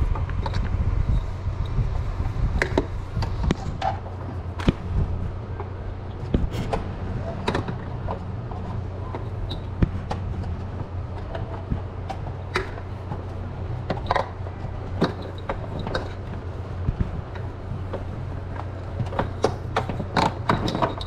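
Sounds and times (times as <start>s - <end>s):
steady low hum: 0.0s - 21.0s
cables and plugs clicking: 2.5s - 21.0s.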